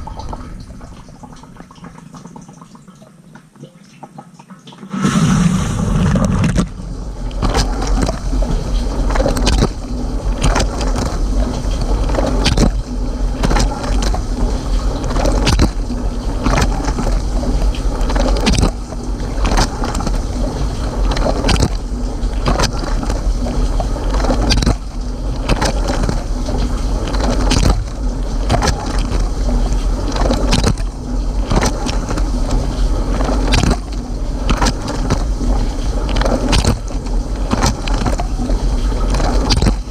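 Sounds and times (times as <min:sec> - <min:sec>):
water spraying in dishwasher: 0:04.7 - 0:39.9
dishwasher pump humming: 0:06.0 - 0:39.9.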